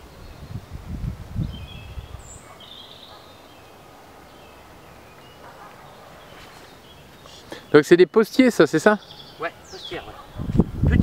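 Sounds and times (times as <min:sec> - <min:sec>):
small birds chirping: 0:00.0 - 0:10.7
faint outdoor ambience: 0:00.0 - 0:11.0.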